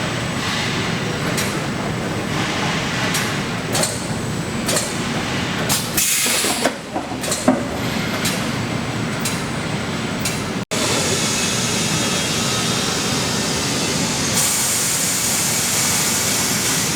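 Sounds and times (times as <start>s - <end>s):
factory machinery running: 0.0s - 16.9s.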